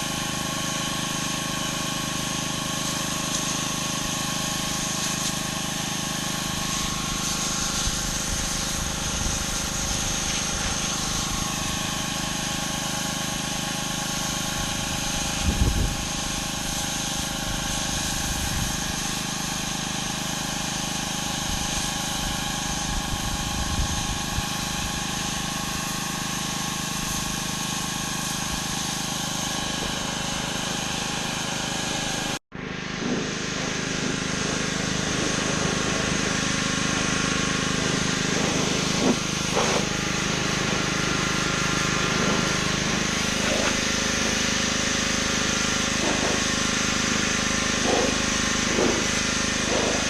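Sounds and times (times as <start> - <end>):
pressure washer engine running: 0.0 - 50.0
water spray hissing on concrete: 0.0 - 50.0.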